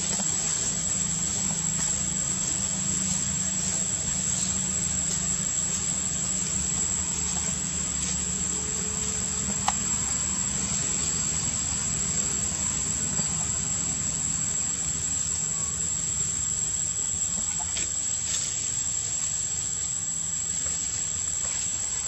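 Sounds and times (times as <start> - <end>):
high insect drone: 0.0 - 22.0
low steady rumble: 0.0 - 22.0.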